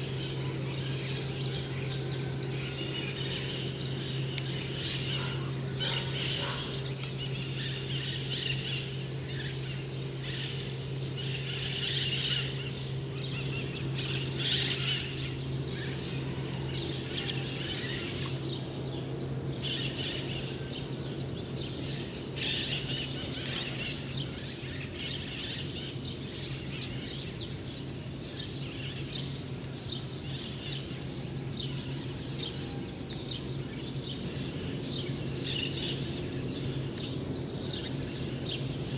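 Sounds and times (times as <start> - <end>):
birds chirping and calling: 0.0 - 38.9
steady low hum: 0.0 - 38.9.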